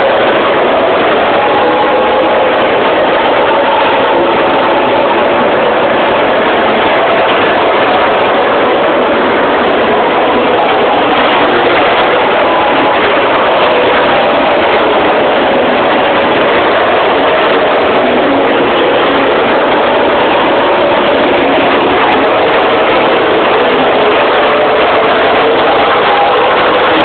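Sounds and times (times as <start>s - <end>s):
engines droning: 0.0s - 27.0s.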